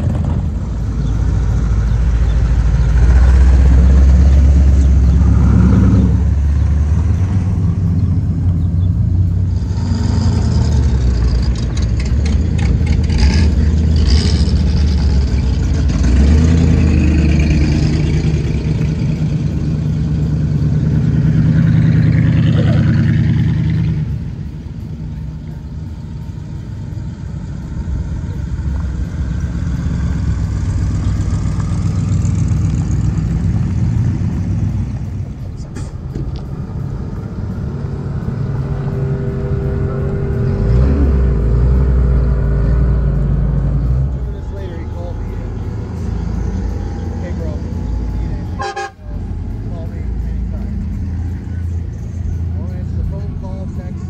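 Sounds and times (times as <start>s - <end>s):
car and truck engines revving: 0.0s - 54.0s.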